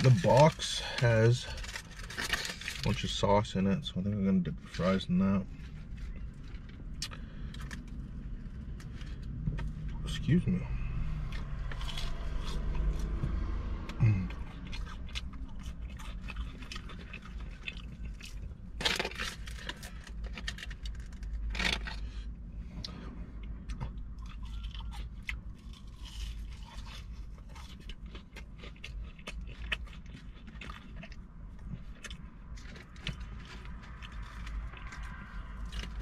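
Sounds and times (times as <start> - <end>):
chewing and crunching fries: 0.0 - 36.0
steady low rumble: 0.0 - 36.0.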